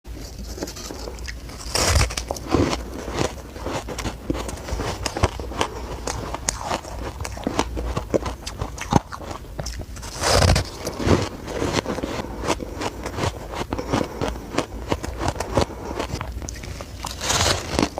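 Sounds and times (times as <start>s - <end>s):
crunchy bites of shaved ice: 0.9s - 17.9s.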